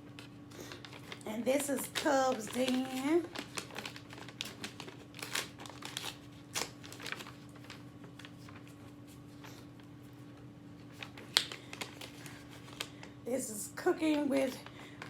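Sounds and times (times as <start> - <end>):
paper rustling and crinkling: 0.0 - 13.2, 14.0 - 15.0.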